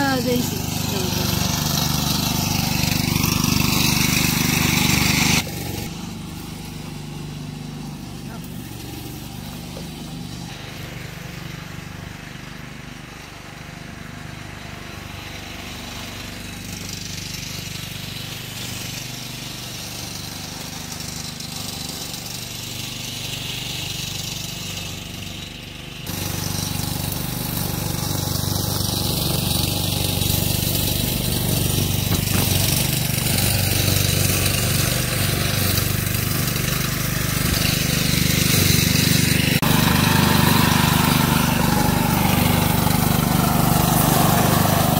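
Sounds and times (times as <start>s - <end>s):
engine running: 0.0s - 44.9s.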